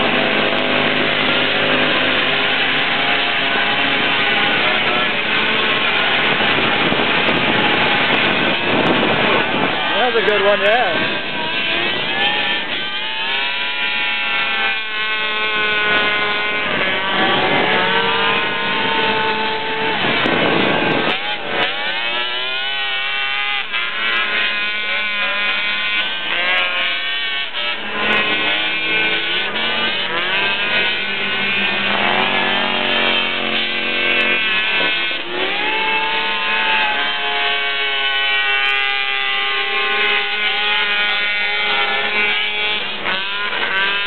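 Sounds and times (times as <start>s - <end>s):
atv engines revving: 0.0s - 44.0s.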